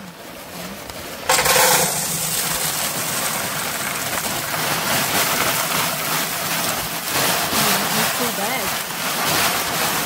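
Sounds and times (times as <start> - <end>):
gravel pouring into metal bucket: 1.1 - 10.0.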